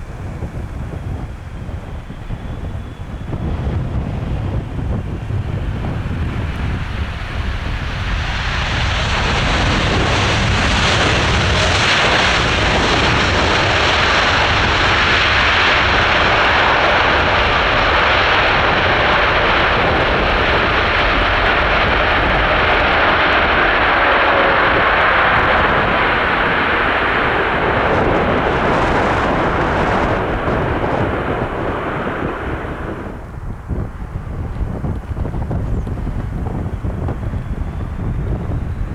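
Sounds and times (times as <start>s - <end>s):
jet engines roaring: 0.0s - 38.9s
wind rumbling on microphone: 0.0s - 38.9s.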